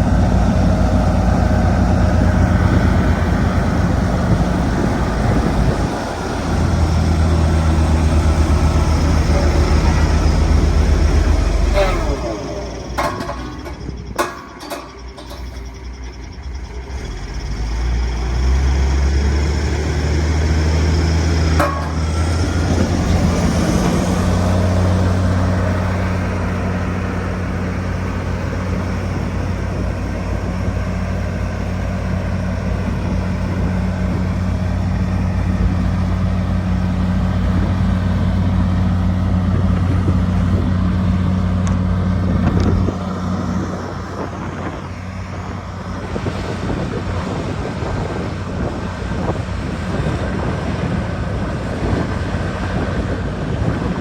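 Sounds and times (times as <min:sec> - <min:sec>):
road roller engine droning: 0:00.0 - 0:54.0.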